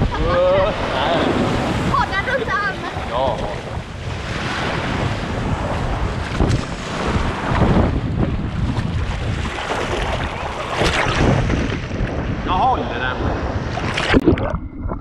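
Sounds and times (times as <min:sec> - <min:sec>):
ocean surf washing: 0:00.0 - 0:14.4
wind buffeting microphone: 0:00.0 - 0:15.0.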